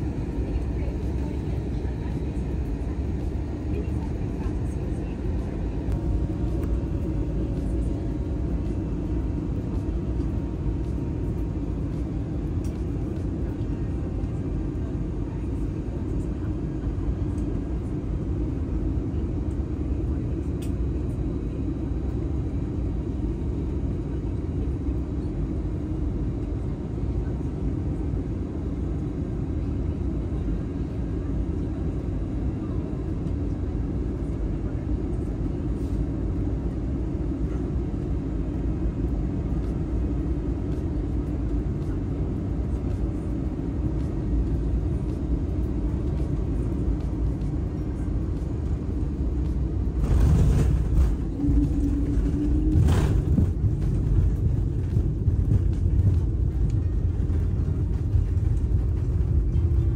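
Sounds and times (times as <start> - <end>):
low rumble of jet engines: 0.0 - 59.9.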